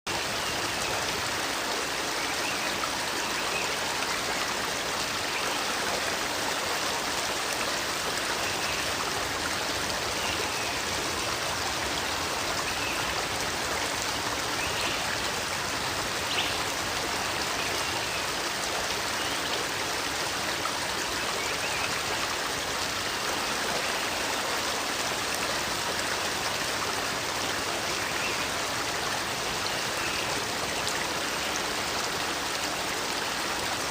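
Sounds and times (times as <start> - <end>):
flowing water rushing: 0.1 - 33.9.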